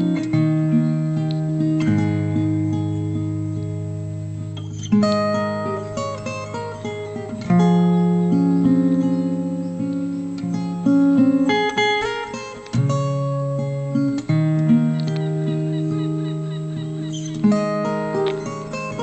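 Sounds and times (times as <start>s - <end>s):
acoustic guitar chords ringing: 0.0s - 19.0s.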